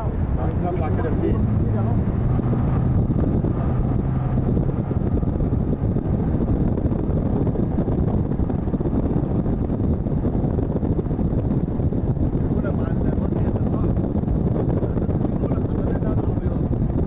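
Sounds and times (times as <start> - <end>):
vehicle engine and tyres rumbling: 0.0 - 17.0
wind noise: 0.0 - 17.0.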